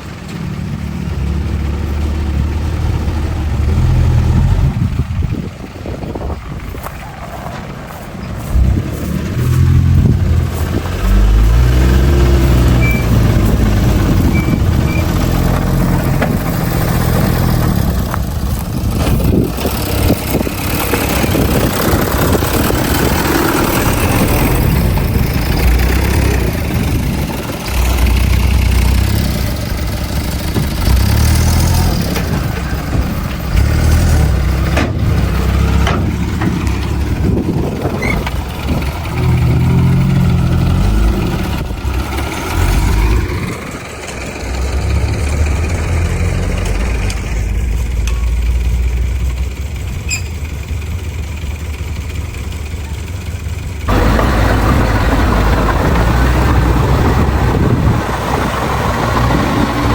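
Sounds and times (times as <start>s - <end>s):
heavy diesel machinery rumbling: 0.0s - 59.9s.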